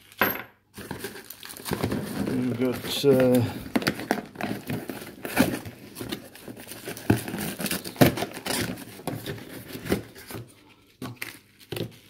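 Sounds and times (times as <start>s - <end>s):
cardboard and plastic rustling: 0.8s - 12.0s.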